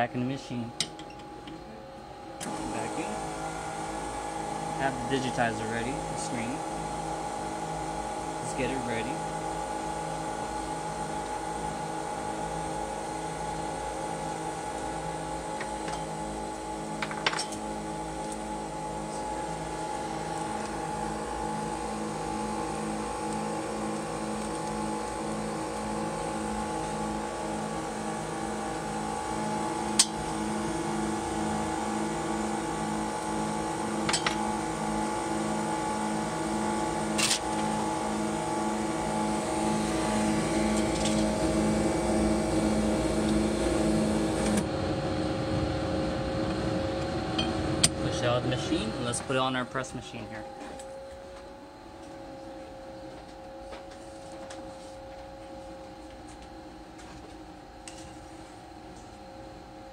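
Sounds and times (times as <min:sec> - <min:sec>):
machine humming in pulses: 0:00.0 - 0:59.9.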